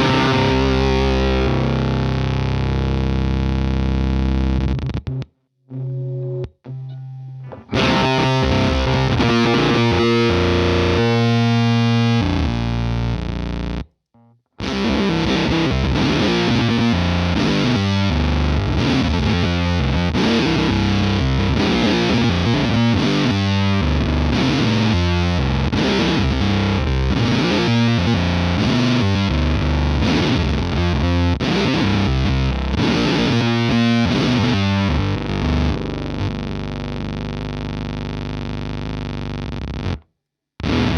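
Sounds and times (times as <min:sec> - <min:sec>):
distorted fuzzy electric guitar: 0:00.0 - 0:13.9, 0:14.6 - 0:40.9.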